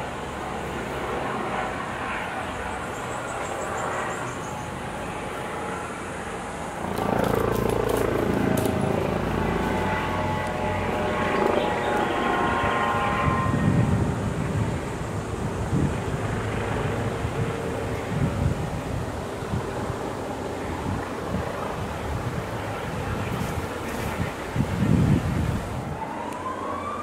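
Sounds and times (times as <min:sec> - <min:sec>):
helicopter flying overhead: 0:00.0 - 0:27.0.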